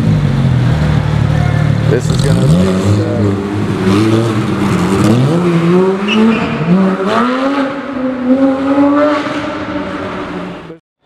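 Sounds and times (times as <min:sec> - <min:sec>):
sports car accelerating hard: 0:01.8 - 0:10.8.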